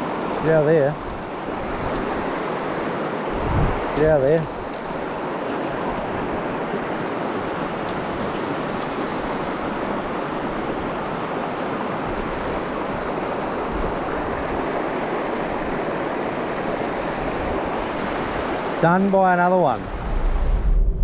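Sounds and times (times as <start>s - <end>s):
river rushing over boulders: 0.0s - 20.2s.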